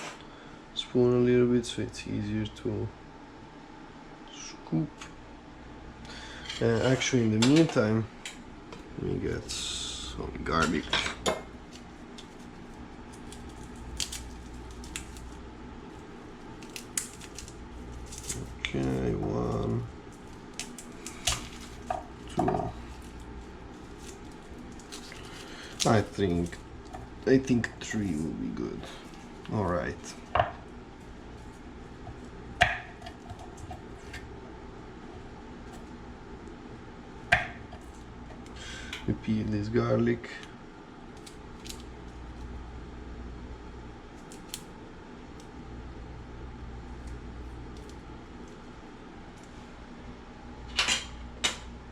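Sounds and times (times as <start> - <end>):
steady low background noise: 0.0 - 51.9
steady low hum: 0.0 - 51.9.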